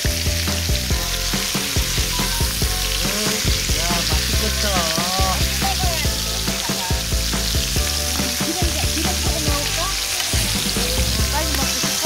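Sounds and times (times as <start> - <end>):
pork sizzling on a griddle: 0.0 - 12.0.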